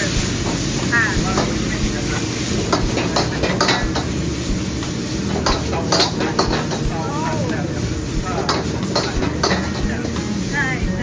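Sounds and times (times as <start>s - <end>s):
food sizzling: 0.0s - 11.0s
gas burner rushing: 0.0s - 11.0s
metal ladle clanking on wok: 0.2s - 7.1s, 8.3s - 10.2s.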